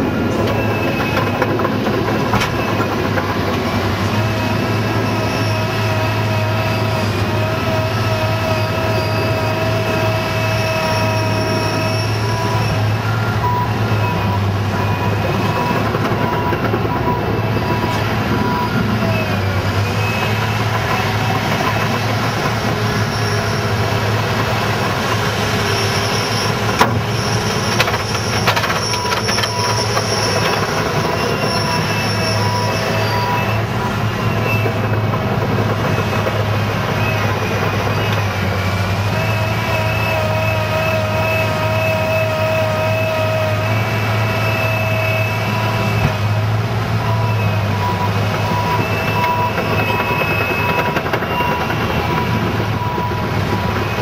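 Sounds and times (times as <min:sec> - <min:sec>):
diesel engine running: 0:00.0 - 0:54.0
hydraulic whines and track squeals: 0:00.0 - 0:54.0.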